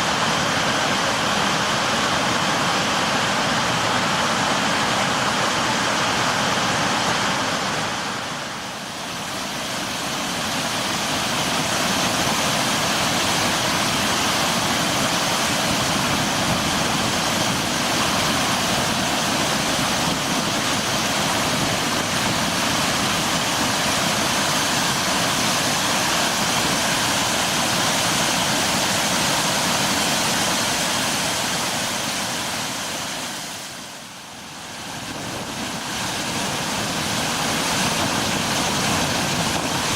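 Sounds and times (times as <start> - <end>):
floodwater rushing from spillway: 0.0 - 39.9.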